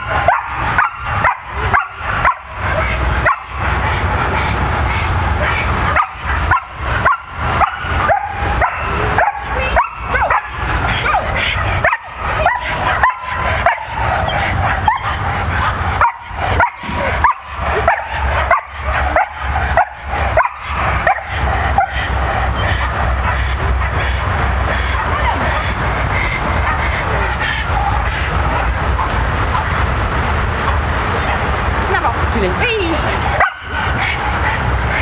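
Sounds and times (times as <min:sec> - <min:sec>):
dog barking and yipping: 0:00.0 - 0:29.8, 0:33.2 - 0:35.0.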